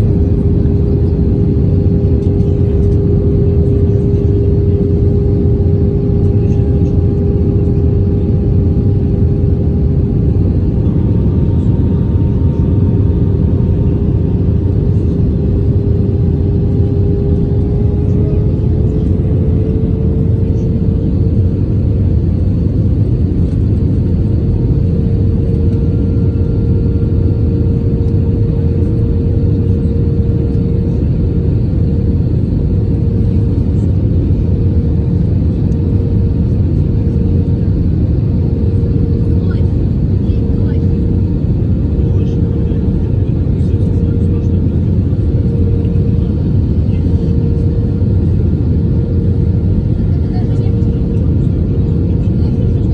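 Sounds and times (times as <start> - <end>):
jet airliner cabin rumble: 0.0 - 52.9
jet engine hum: 0.0 - 52.9.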